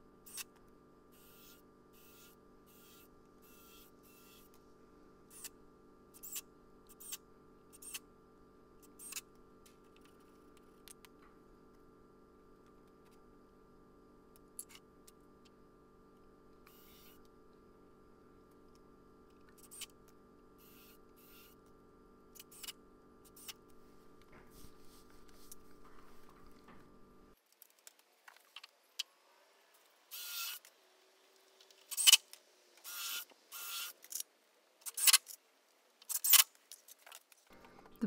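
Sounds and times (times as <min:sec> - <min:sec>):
faint steady hum: 0:00.0 - 0:36.1.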